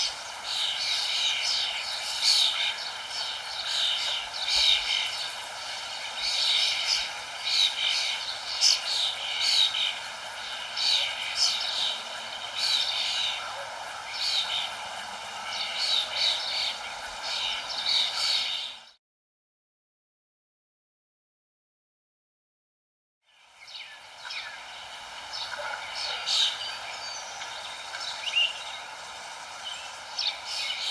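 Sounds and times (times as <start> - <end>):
birds chirping: 0.0 - 19.0, 23.4 - 30.9
steady background hiss: 0.0 - 19.0, 23.3 - 30.9.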